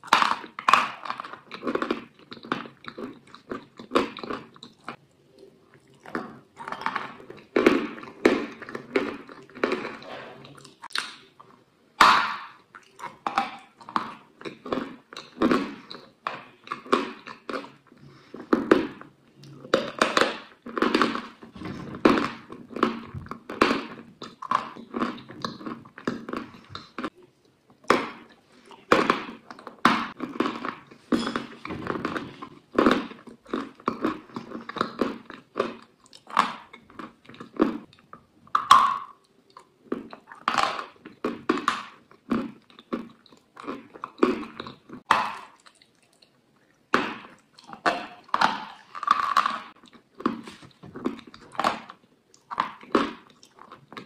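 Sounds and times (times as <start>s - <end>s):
chewing and biting mouth sounds: 0.0s - 54.0s.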